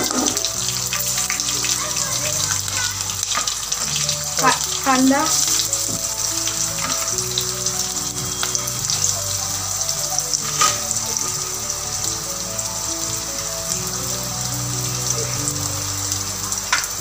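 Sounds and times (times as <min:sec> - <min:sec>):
oil popping: 0:00.0 - 0:17.0
onions sizzling in hot oil: 0:00.0 - 0:17.0
soft background music: 0:00.0 - 0:17.0.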